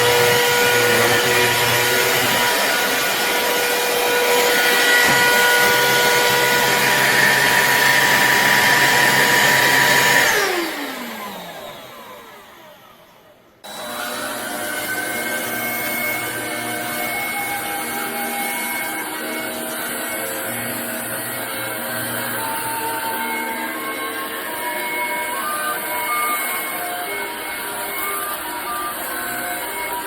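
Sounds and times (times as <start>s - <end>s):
stick vacuum motor whine: 0.0s - 30.0s
vacuum winding down: 0.0s - 30.0s.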